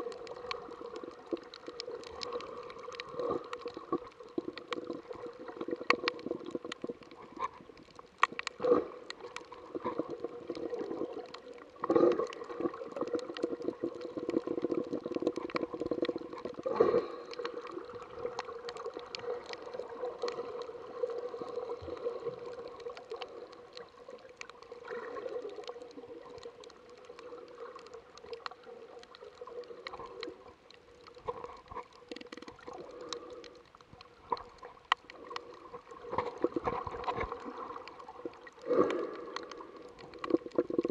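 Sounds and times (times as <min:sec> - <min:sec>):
muffled underwater water rush: 0:00.0 - 0:40.9
sharp clicks and crackles: 0:00.0 - 0:40.9.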